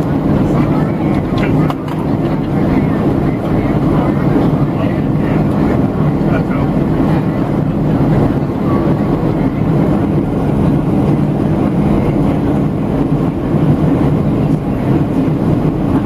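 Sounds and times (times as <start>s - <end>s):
airplane cabin engine drone: 0.0s - 16.0s.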